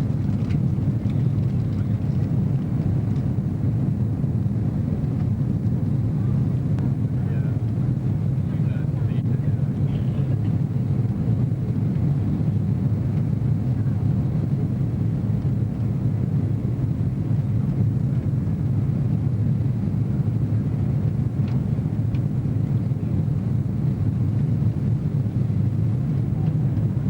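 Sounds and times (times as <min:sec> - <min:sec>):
jet engines in cabin: 0:00.0 - 0:27.0.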